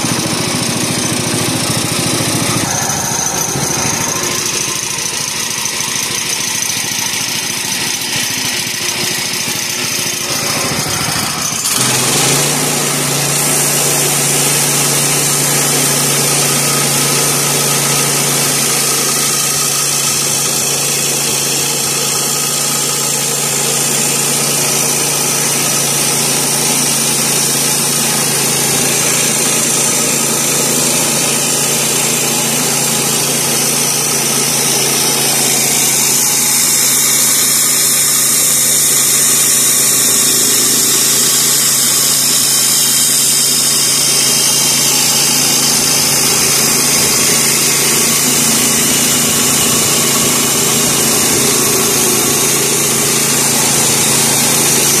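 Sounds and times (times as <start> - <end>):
engine running under load: 0.0 - 55.0
bandsaw blade cutting wood hiss: 2.2 - 55.0.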